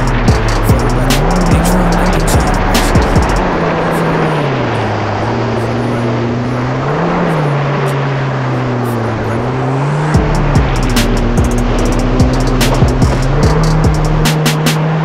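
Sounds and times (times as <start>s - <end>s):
jet ski engine running: 0.0s - 15.0s
rush of wind and water: 0.0s - 15.0s.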